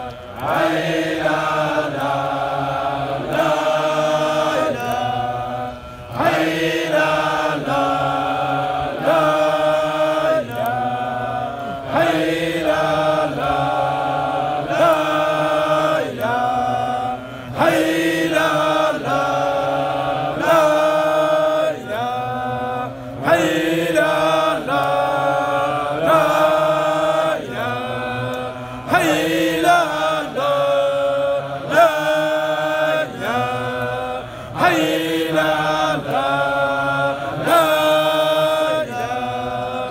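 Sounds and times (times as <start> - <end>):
men chanting melodically: 0.0 - 39.9.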